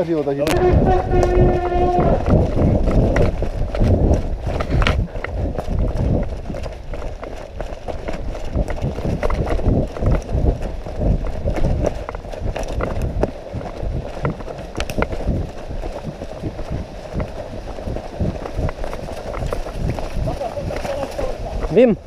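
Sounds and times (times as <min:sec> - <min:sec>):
running footsteps on leaves: 0:00.0 - 0:22.0.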